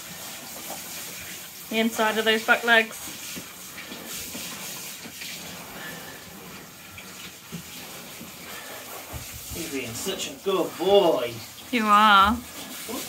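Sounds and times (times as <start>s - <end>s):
shower water spraying: 0.0s - 13.0s.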